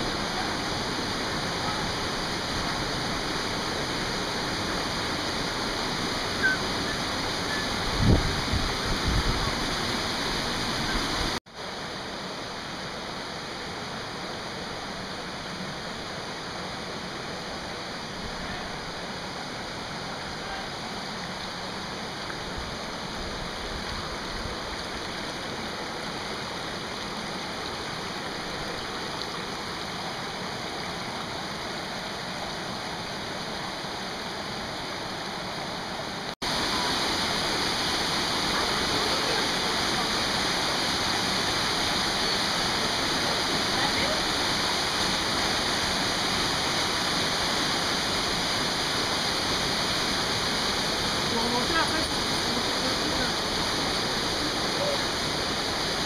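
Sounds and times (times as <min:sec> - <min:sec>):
mountain stream rushing over rocks: 0:00.0 - 0:56.0.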